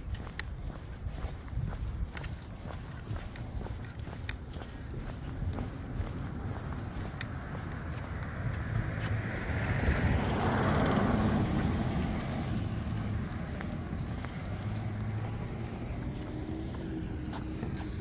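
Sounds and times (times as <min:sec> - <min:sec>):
low traffic rumble: 0:00.0 - 0:18.0
car passing: 0:00.3 - 0:18.0.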